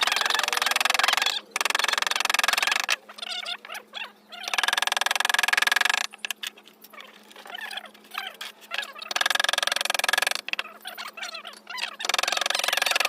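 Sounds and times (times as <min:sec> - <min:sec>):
quiet chirping calls: 0:00.0 - 0:13.0.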